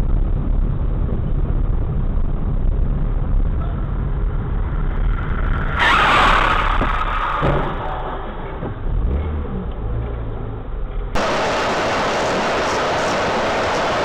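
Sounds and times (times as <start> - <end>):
car rumbling on road: 0.0 - 14.0.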